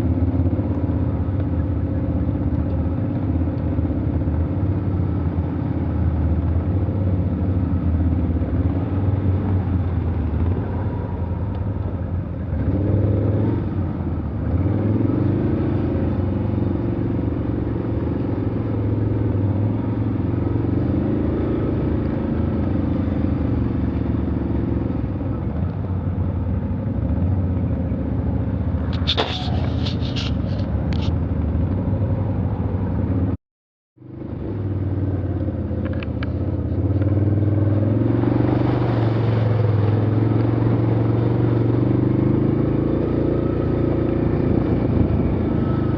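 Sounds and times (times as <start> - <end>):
off-road vehicle engine running: 0.0 - 33.4, 34.0 - 45.9.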